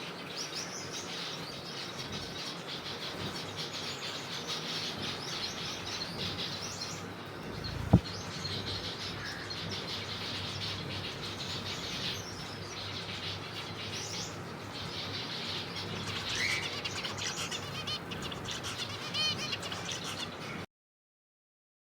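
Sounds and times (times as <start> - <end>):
finches chirping: 0.2 - 20.6.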